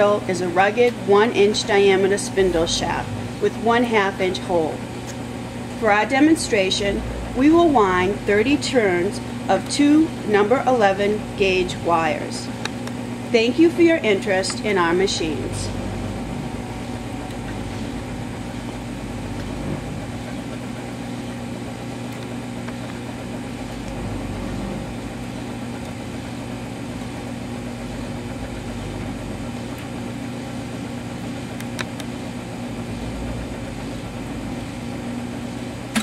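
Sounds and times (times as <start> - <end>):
coil winder machine hum: 0.0 - 36.0.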